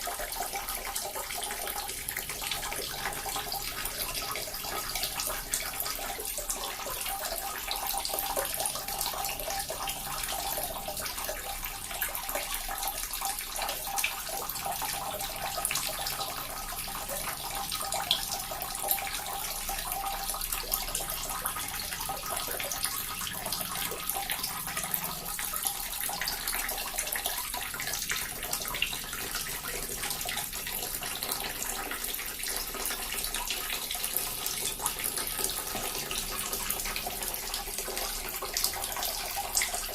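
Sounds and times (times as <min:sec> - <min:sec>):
water fountain trickling: 0:00.0 - 0:39.9.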